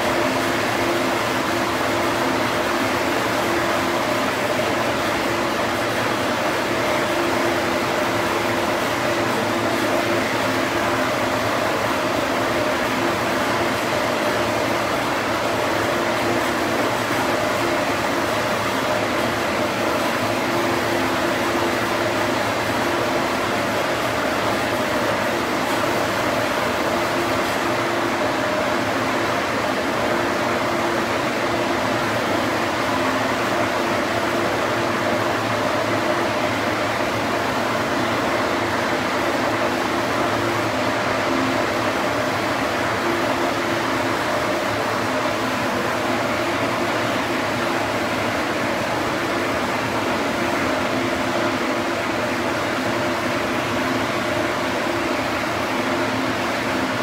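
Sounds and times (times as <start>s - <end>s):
steady machine drone: 0.0s - 57.0s.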